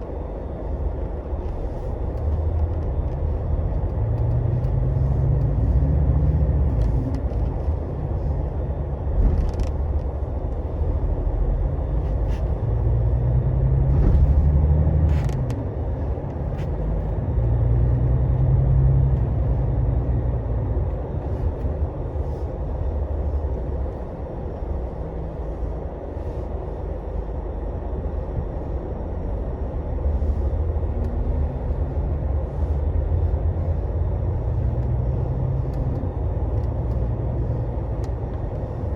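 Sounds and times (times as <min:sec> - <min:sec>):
diesel bus engine running: 0:00.0 - 0:38.9
road rumble: 0:00.0 - 0:38.9.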